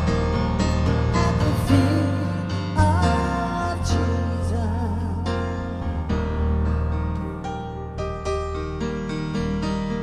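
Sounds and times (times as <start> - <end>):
electric keyboard chords: 0.0 - 10.0.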